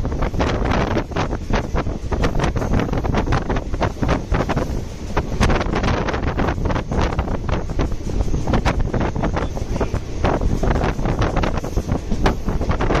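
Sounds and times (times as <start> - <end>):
train wheels clacking over track: 0.0 - 13.0
wind buffeting the microphone: 0.0 - 13.0.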